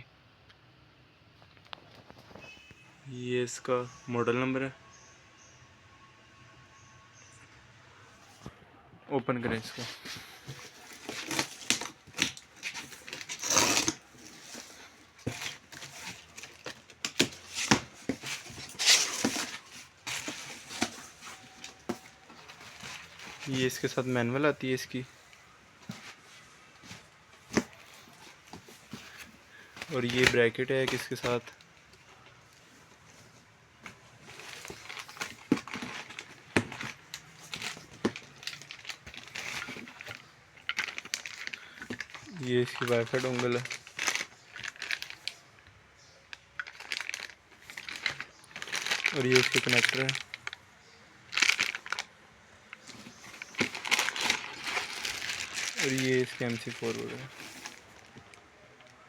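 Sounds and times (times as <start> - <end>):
cardboard packaging rustling: 9.6 - 50.6, 51.3 - 59.0.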